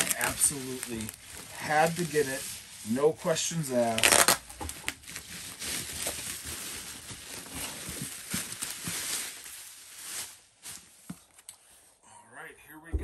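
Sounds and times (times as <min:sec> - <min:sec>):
bubble wrap crinkling: 0:00.0 - 0:11.6.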